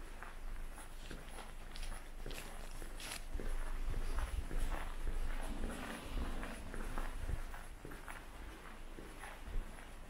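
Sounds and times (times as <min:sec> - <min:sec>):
footsteps on concrete floor: 0:00.0 - 0:10.0
steady low hum: 0:00.0 - 0:10.0.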